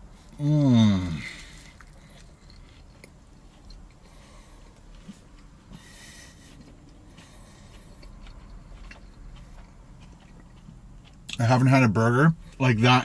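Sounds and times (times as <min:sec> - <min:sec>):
man chewing quietly: 0:00.0 - 0:12.6.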